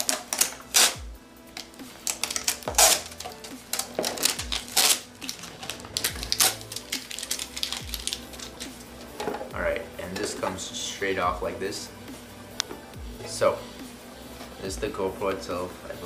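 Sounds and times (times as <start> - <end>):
faint background music with beat: 0.0 - 16.0.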